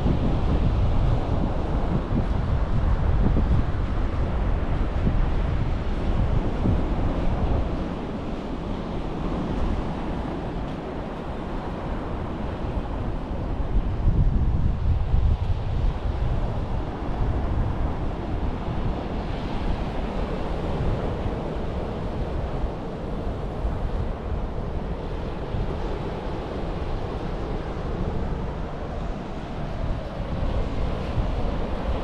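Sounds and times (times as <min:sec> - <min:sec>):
ocean surf washing onto beach: 0:00.0 - 0:32.0
wind buffeting microphone: 0:00.0 - 0:32.0.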